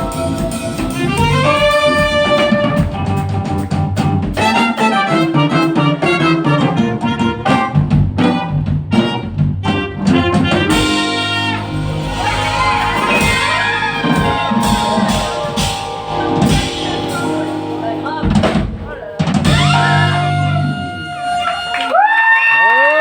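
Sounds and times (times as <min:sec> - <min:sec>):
brass lines: 0:00.0 - 0:18.6, 0:19.4 - 0:22.2
saxophone: 0:00.0 - 0:18.6, 0:19.4 - 0:22.4
drum kit: 0:00.0 - 0:22.0.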